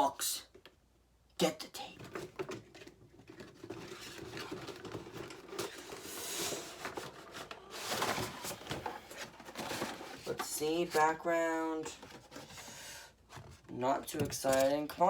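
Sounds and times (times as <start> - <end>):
packaging rustling and crinkling: 2.0 - 15.0.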